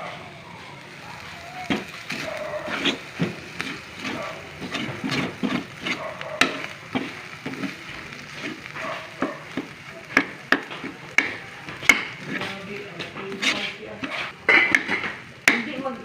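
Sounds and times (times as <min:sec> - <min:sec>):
meat frying in butter: 0:00.8 - 0:16.0
utensil scraping a pan: 0:01.6 - 0:15.7.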